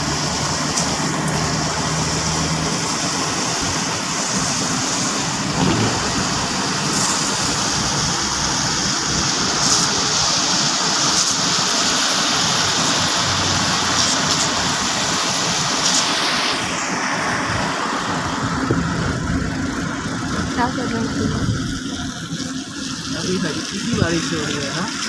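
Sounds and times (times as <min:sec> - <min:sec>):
car engine and road noise: 0:00.0 - 0:23.1
tyres hissing on wet road: 0:00.0 - 0:25.0.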